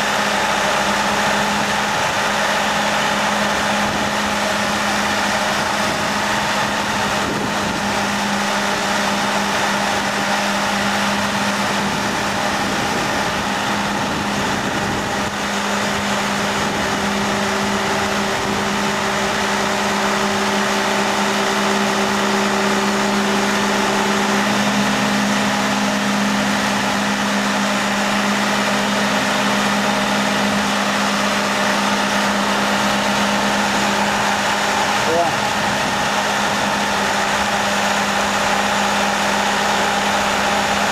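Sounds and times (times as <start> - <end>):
higher engine tone: 0.0 - 40.9
hoist engine humming: 0.0 - 40.9.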